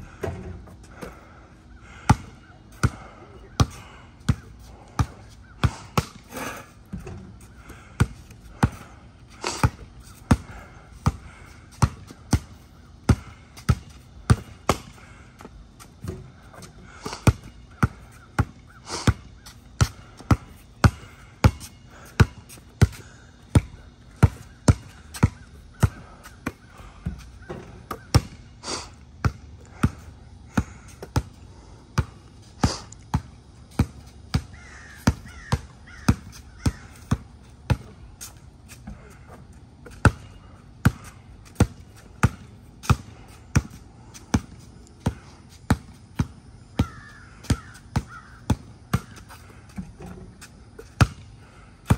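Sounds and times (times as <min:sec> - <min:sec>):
basketball bouncing on concrete: 0:01.9 - 0:06.3, 0:06.9 - 0:08.9, 0:09.5 - 0:28.5, 0:29.2 - 0:31.4, 0:32.0 - 0:39.2, 0:39.8 - 0:51.9.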